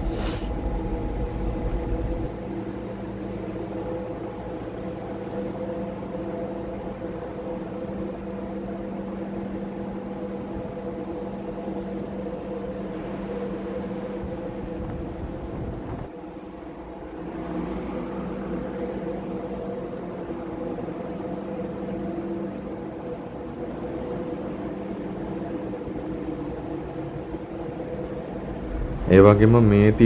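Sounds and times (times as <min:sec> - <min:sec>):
engine room machinery hum: 0:00.0 - 0:30.0.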